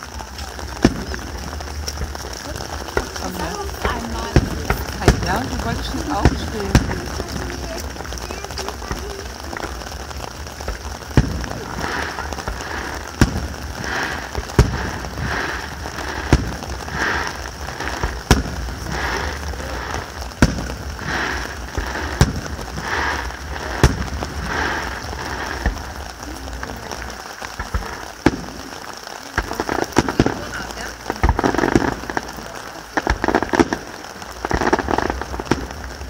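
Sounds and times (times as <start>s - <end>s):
firework bangs: 0.0s - 36.0s
firework hiss: 0.0s - 36.0s.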